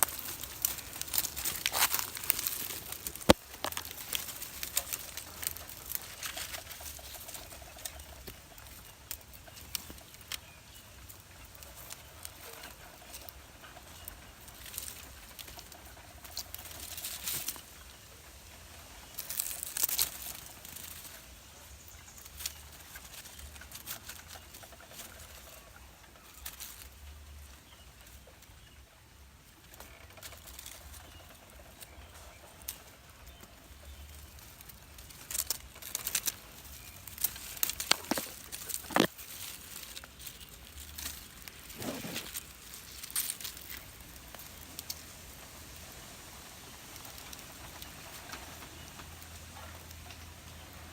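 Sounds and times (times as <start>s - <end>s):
rustling: 0.0s - 50.9s.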